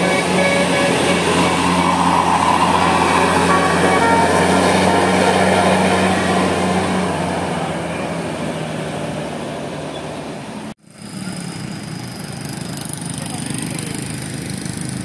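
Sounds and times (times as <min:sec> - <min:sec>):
bus engine running: 0:00.0 - 0:15.0
traffic noise: 0:00.0 - 0:15.0.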